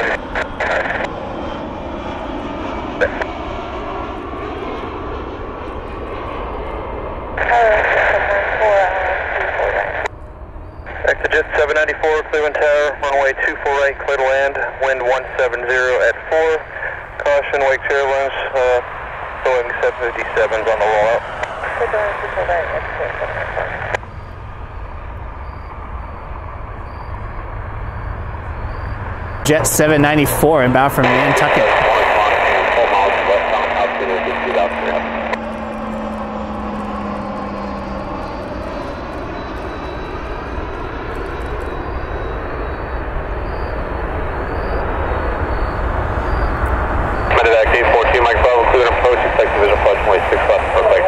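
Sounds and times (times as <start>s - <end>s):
scanner radio transmission: 0.0s - 1.2s, 3.0s - 3.4s, 7.4s - 10.1s, 10.7s - 51.0s
jet engines roaring: 0.0s - 51.0s.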